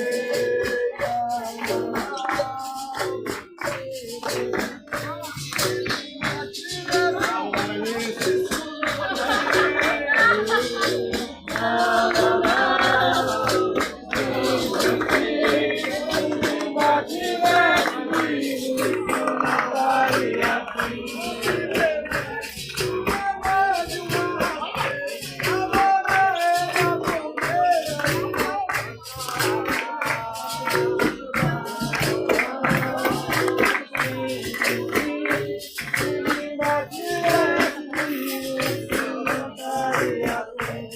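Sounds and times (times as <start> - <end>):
driving percussion rhythm: 0.0 - 40.9
jingling tambourine: 0.0 - 40.9
voices singing: 0.0 - 40.9.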